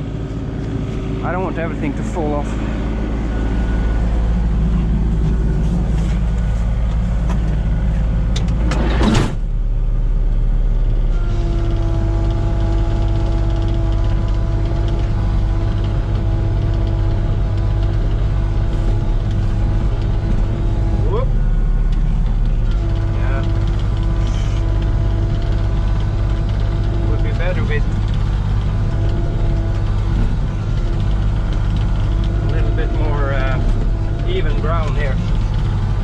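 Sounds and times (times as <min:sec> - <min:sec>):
excavator diesel engine running: 0:00.0 - 0:36.0
steady whining tone: 0:00.0 - 0:36.0.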